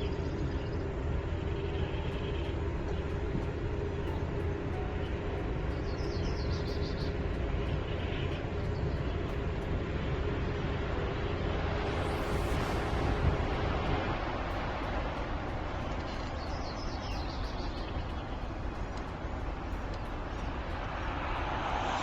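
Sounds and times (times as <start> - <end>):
low rumble: 0.0 - 22.0
tyre and road noise: 0.0 - 22.0.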